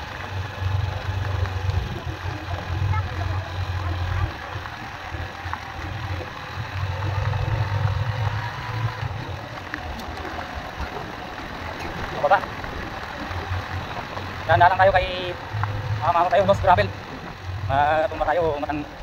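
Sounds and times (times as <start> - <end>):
small motorcycle engine running: 0.0 - 19.0
tyres on gravel road: 0.0 - 19.0.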